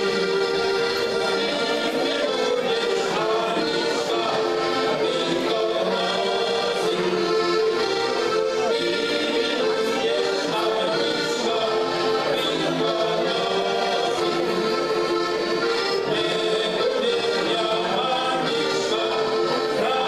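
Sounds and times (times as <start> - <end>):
button accordions playing a tune: 0.0 - 20.0.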